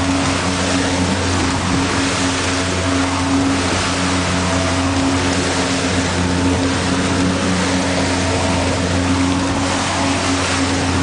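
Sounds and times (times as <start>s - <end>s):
boat engine droning: 0.0s - 11.0s
water rushing: 0.0s - 11.0s
wind: 0.0s - 11.0s.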